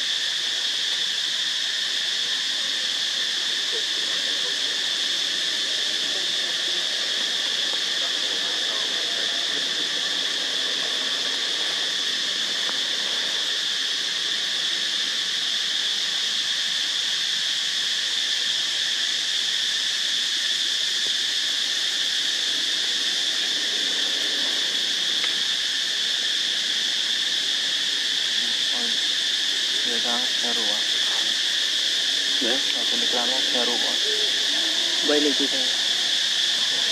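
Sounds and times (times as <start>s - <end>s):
forest insects buzzing: 0.0s - 36.9s.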